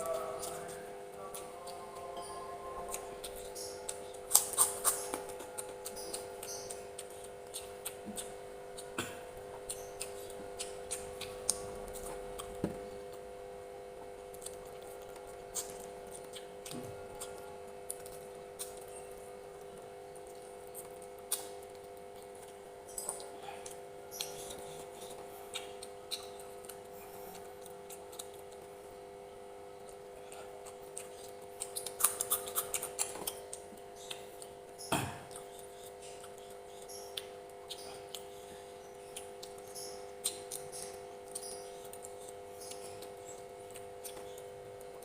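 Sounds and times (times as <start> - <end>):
person chewing food: 0.0 - 45.0
steady low hum: 0.0 - 45.0.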